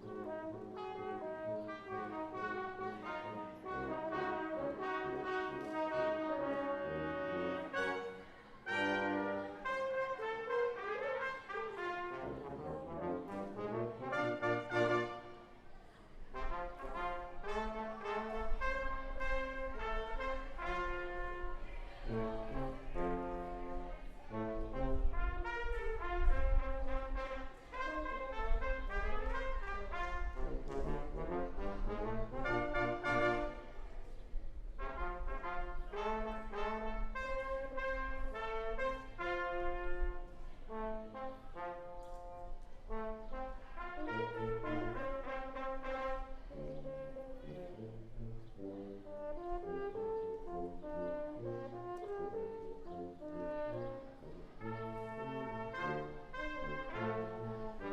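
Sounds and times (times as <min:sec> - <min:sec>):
brass quintet playing pop: 0:00.0 - 0:15.6, 0:16.2 - 0:57.9.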